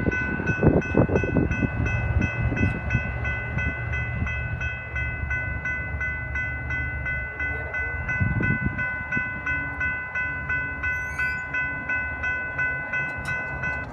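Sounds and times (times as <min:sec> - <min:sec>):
crossing warning bell ringing: 0:00.0 - 0:13.9.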